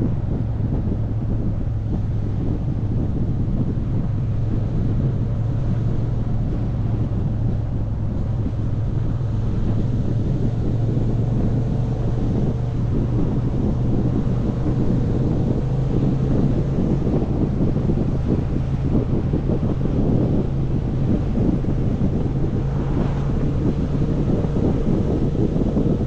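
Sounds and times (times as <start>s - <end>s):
motorcycle engine cruising: 0.0s - 26.0s
wind noise on microphone: 0.0s - 26.0s.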